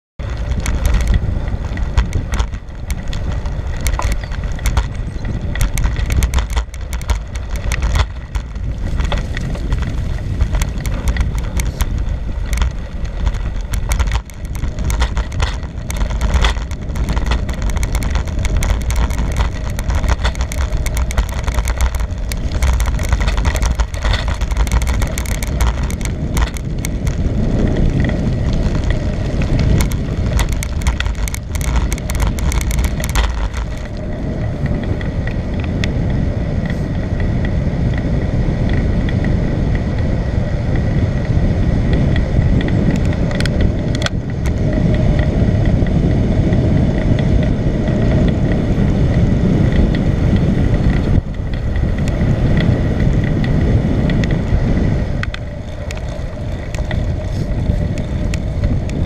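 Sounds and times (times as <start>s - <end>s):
bike rattling over rough surface: 0.2s - 59.0s
wind rushing over microphone: 0.2s - 59.0s.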